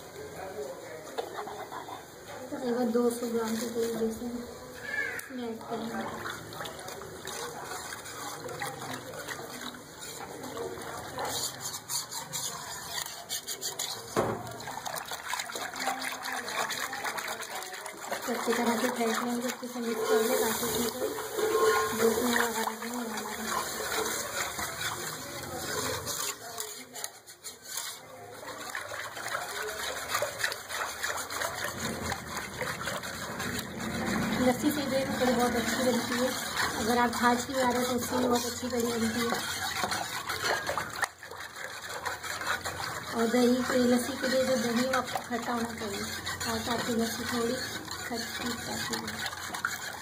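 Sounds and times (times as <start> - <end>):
batter sloshing while stirred: 0.0 - 50.0.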